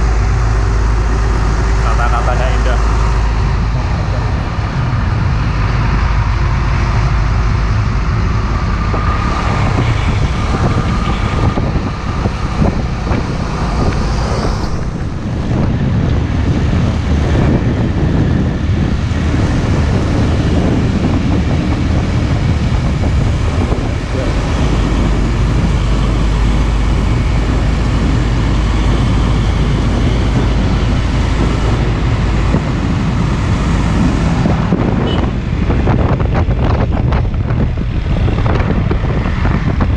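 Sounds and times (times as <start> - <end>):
heavy trucks driving on highway: 0.0 - 39.9
wind buffeting microphone: 0.0 - 39.9.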